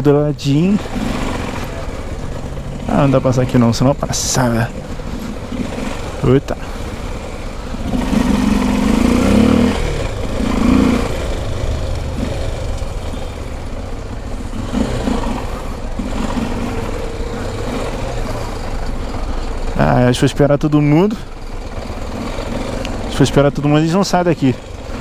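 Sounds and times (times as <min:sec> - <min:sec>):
motorcycle engine revving: 0:00.0 - 0:25.0
traffic rumble: 0:00.0 - 0:25.0.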